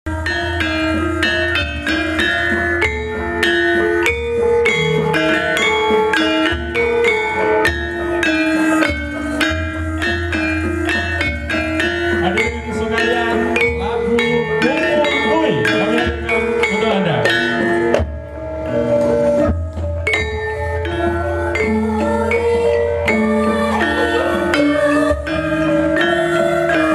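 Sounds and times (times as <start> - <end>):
gamelan metallophones ringing: 0.1 - 26.9.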